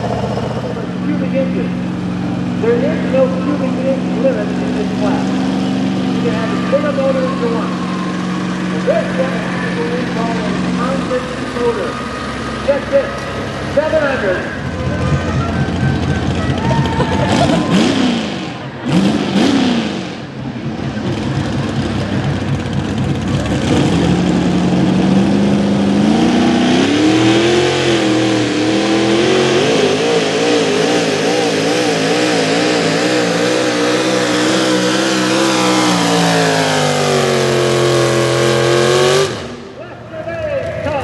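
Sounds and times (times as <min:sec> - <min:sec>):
truck engine revving hard: 0:00.0 - 0:41.0.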